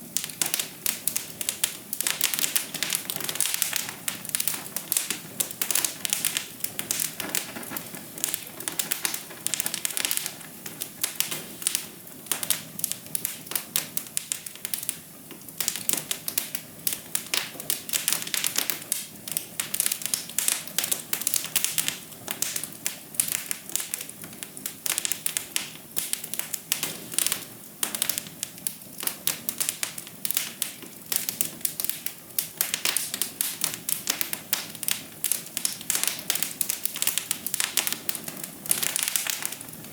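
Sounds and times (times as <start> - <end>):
fire pops and snaps: 0.0 - 39.9
hiss of flames: 0.0 - 39.9.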